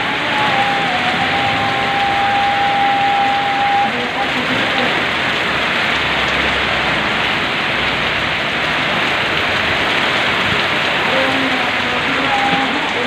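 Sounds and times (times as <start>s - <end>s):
heavy rain hiss: 0.0s - 13.0s
rainwater pouring off roof: 0.0s - 13.0s.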